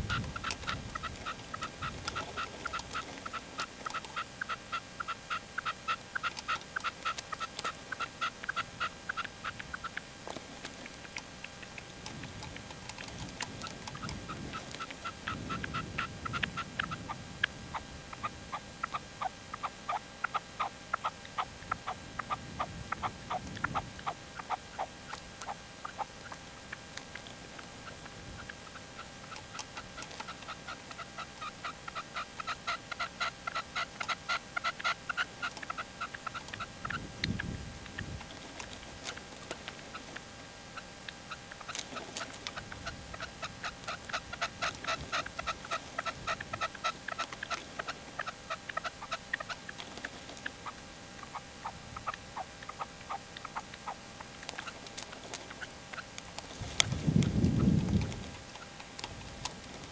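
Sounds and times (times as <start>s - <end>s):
partridge calling: 0.0s - 59.9s.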